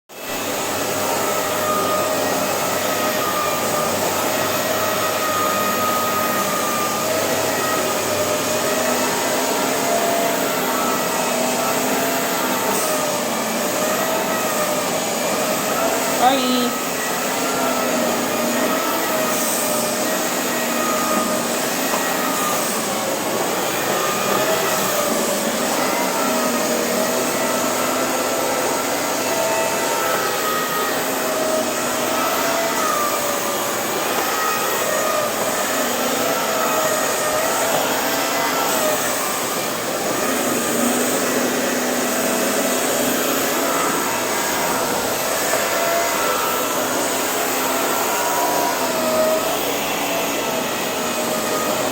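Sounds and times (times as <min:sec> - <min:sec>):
vacuum cleaner running: 0:00.1 - 0:51.9.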